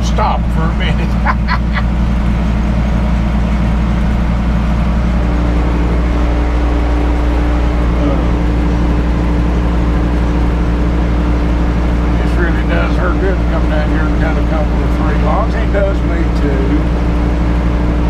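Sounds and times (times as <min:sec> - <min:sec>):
engine throbbing: 0:00.0 - 0:18.0
steady higher hum: 0:00.0 - 0:18.0.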